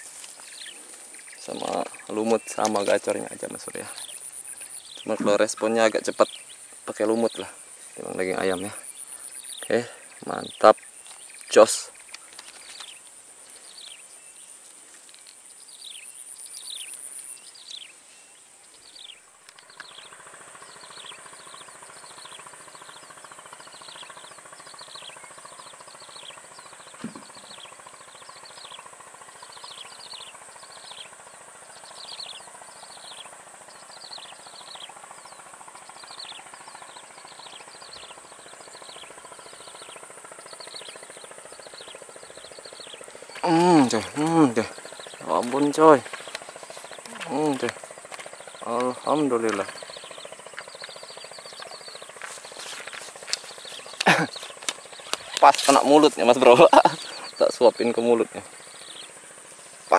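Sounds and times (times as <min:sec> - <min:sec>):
bird chirping: 0:00.0 - 0:59.9
faint steady hum: 0:00.0 - 0:59.9
insect drone: 0:00.0 - 0:59.9.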